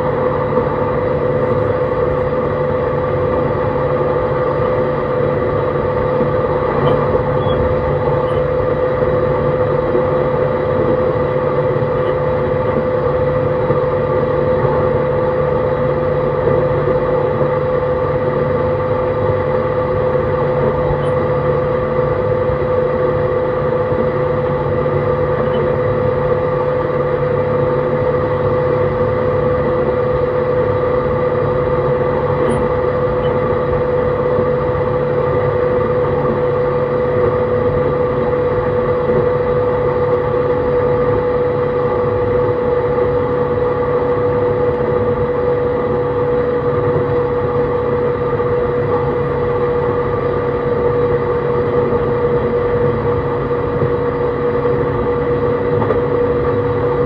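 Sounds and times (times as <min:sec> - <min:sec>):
train motor whine: 0:00.0 - 0:57.0
train wheels rumbling on track: 0:00.0 - 0:57.0.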